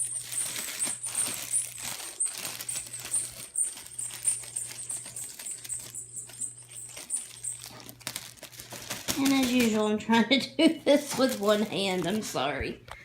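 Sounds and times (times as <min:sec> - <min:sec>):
packaging rustling and crinkling: 0:00.0 - 0:10.0, 0:10.6 - 0:12.8.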